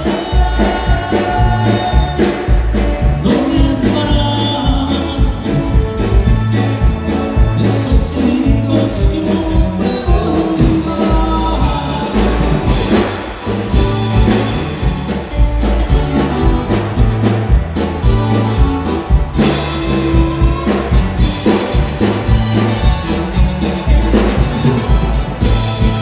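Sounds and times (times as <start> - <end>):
live band playing dance music: 0.0 - 26.0
sustained bass notes: 0.0 - 26.0.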